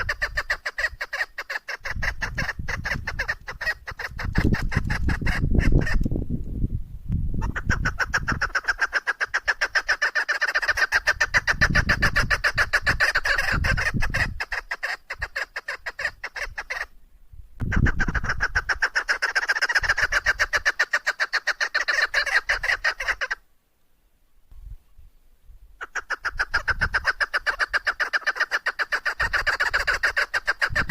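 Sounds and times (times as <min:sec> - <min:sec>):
partridge calling: 0:00.0 - 0:06.1, 0:07.4 - 0:17.0, 0:17.6 - 0:23.4, 0:25.8 - 0:30.9.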